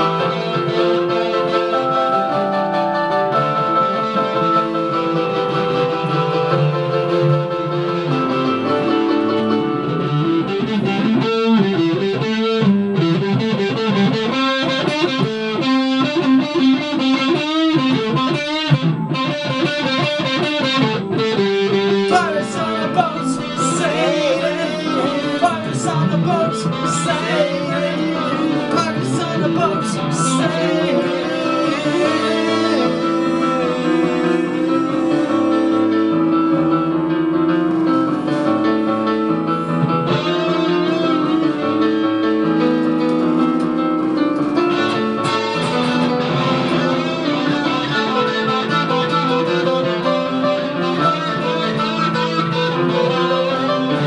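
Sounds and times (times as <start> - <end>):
electric guitar solo: 0.0 - 54.0
keyboard chords: 0.0 - 54.0.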